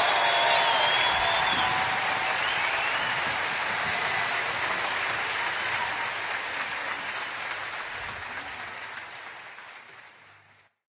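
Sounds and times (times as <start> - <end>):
audience applause: 0.0 - 10.8.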